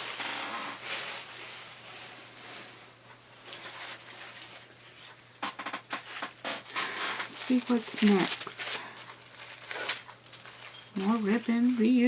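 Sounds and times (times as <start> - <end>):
paper and plastic packaging rustling: 0.0 - 12.0.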